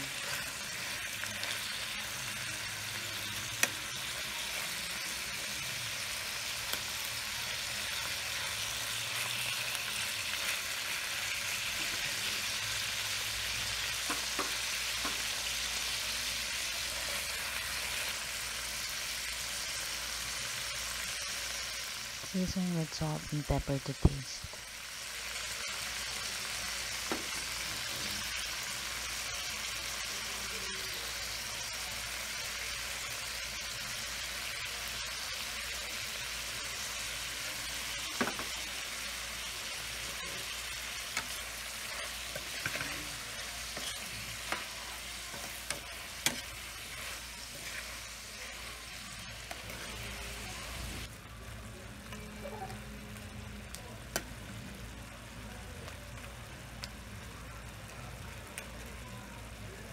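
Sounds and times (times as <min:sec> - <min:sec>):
shrimps sizzling in butter: 0:00.0 - 0:59.9.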